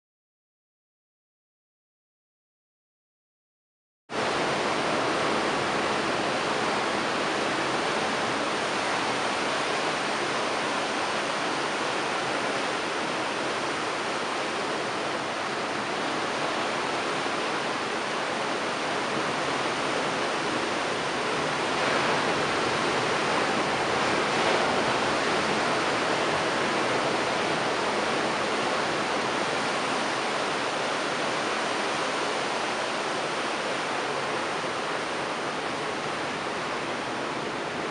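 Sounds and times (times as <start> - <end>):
surf breaking on rocky shore: 4.2 - 37.9.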